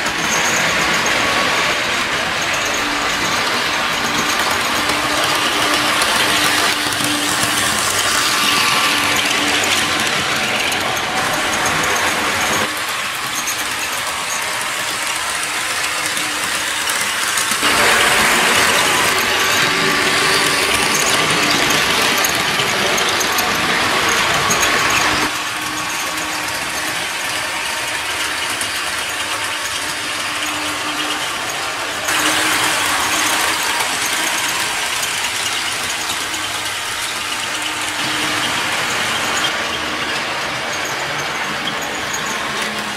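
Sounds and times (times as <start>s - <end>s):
model train motor whirring: 0.0s - 42.9s
wheels rolling on rails: 0.0s - 42.9s.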